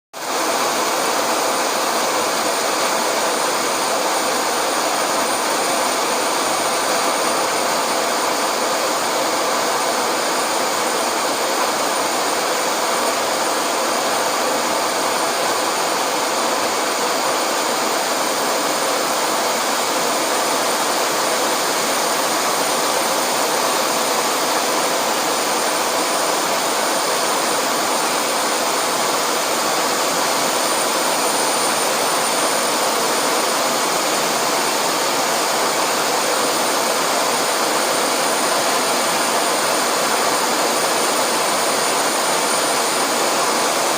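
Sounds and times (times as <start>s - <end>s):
jet engines running: 1.0s - 43.9s.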